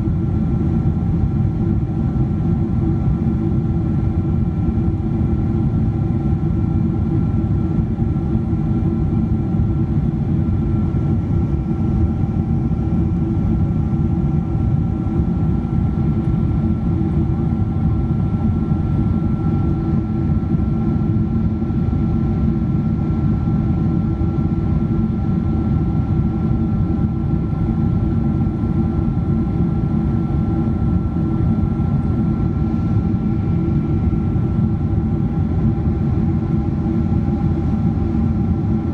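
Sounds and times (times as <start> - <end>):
airliner cabin engine and air rush: 0.0 - 38.9.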